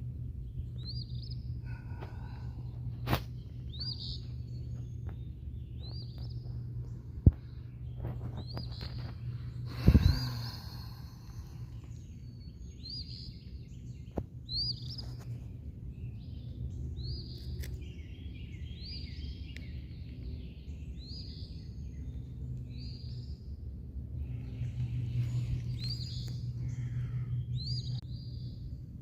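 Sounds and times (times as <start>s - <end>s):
birds chirping: 0.0s - 29.0s
low background rumble: 0.0s - 29.0s.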